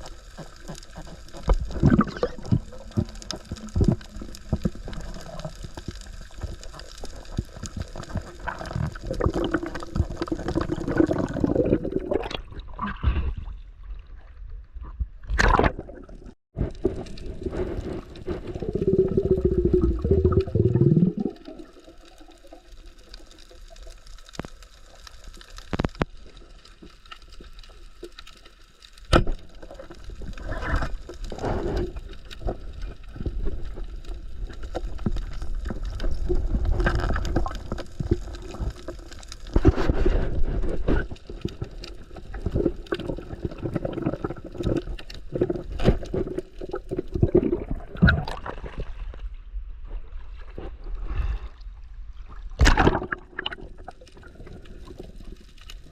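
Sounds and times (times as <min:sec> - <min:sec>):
water gurgling and sloshing: 0:00.0 - 0:55.9.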